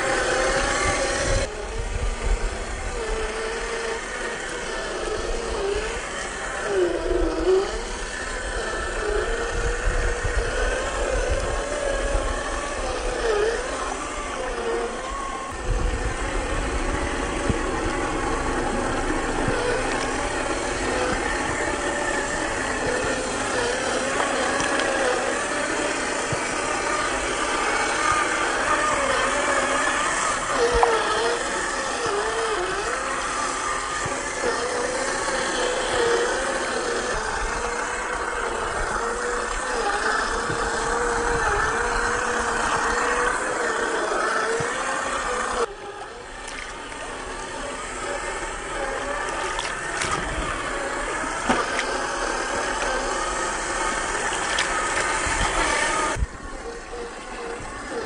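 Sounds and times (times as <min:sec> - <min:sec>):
electric motor whining: 0:00.0 - 0:58.0.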